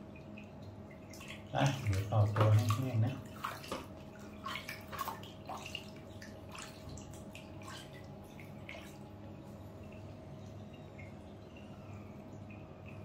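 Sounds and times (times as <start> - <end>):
faint steady hum: 0.0 - 13.0
water dripping and splashing: 0.0 - 13.0.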